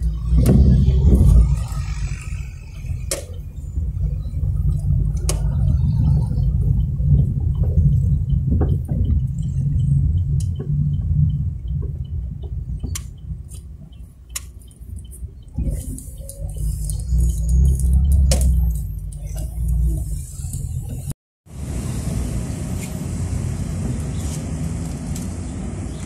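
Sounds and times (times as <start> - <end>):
turn signal ticking: 0.0 - 21.1
car interior engine rumble: 0.0 - 26.0.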